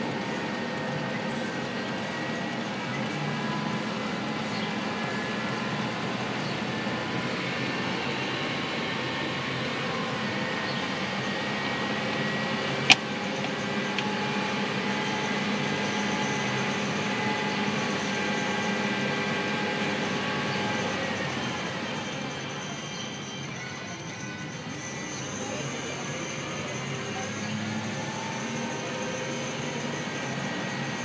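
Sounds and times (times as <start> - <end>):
engine idling from inside cab: 0.0 - 31.0.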